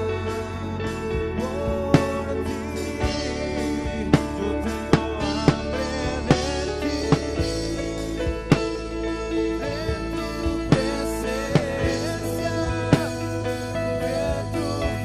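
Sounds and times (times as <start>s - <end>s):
worship music chords: 0.0s - 15.0s
drum kit hits: 1.1s - 15.0s.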